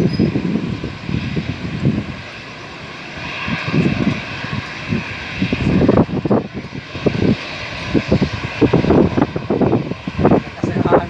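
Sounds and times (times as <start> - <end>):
airliner engines whining: 0.0 - 11.0
low rumbling gusts: 0.0 - 11.0.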